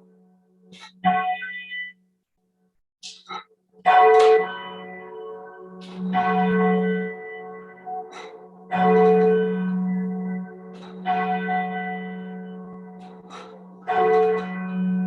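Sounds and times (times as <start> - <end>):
church bell tolling: 0.8 - 2.0, 3.8 - 15.0.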